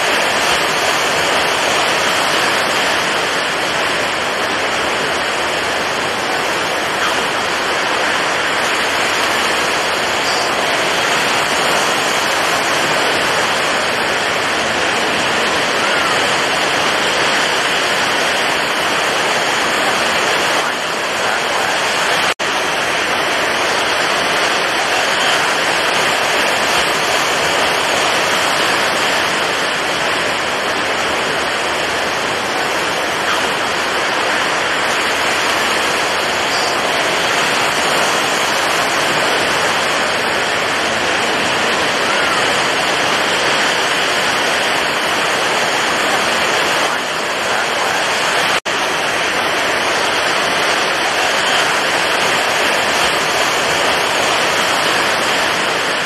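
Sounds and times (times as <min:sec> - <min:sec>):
steady dense rain: 0:00.0 - 0:56.0.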